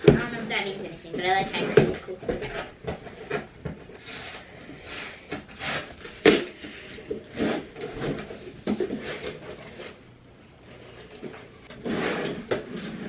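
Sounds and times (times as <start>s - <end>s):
cardboard rustling and scraping: 0.0s - 10.0s, 10.6s - 13.0s.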